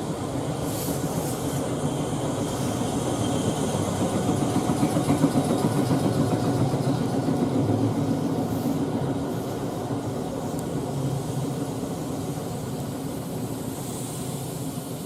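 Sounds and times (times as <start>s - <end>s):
electric train rumble: 0.0s - 15.0s
train hiss: 0.0s - 15.0s.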